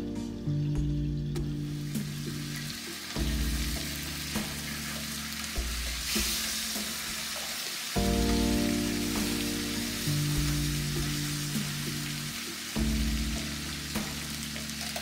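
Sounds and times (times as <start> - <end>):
background music low notes: 0.0 - 15.0
meat sizzling in a pan: 1.6 - 15.0.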